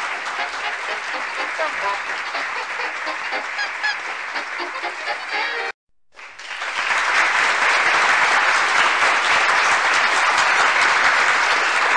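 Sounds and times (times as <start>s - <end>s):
crowd applauding: 0.0s - 11.9s.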